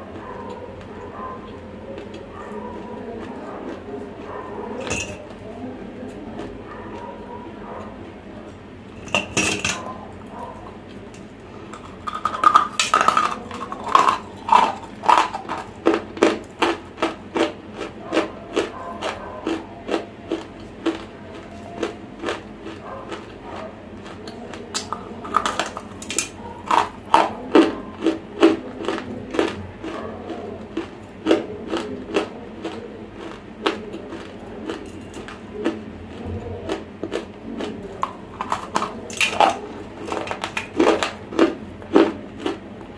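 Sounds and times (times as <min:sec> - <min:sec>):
crunching of dry clay being chewed: 0:00.0 - 0:07.2, 0:09.8 - 0:42.9.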